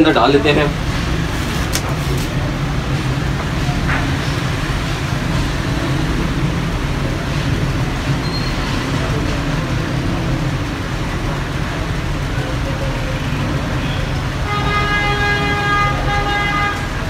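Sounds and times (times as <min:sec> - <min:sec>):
rumbling background noise: 0:00.0 - 0:17.0.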